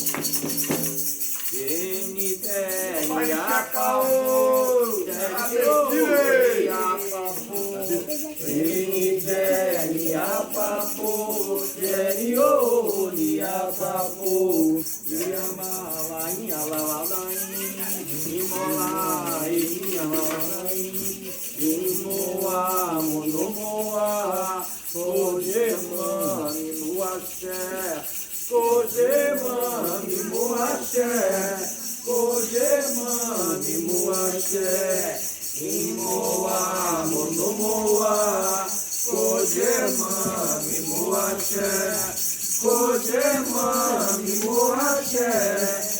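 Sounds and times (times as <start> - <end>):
rattle shaken rhythmically: 0.0 - 45.9
voices singing a chant: 0.0 - 45.9.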